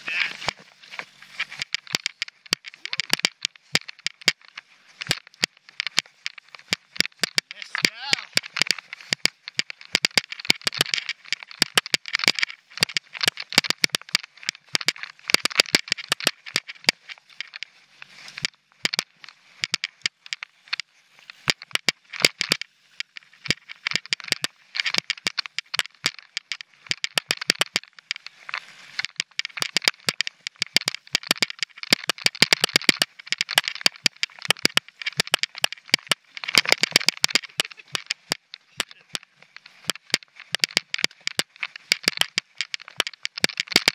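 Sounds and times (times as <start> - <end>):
bike tyres rattling over rocks: 0.0 - 43.9.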